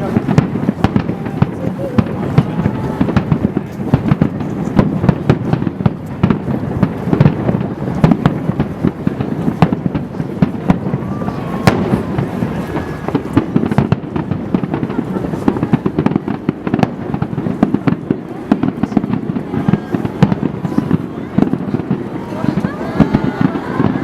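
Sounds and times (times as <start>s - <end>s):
fireworks bangs and booms: 0.0s - 24.0s.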